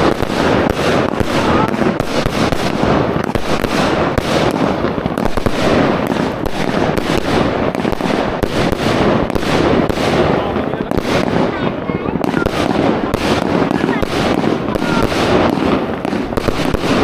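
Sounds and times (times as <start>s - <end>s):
fireworks banging and crackling: 0.0s - 17.0s.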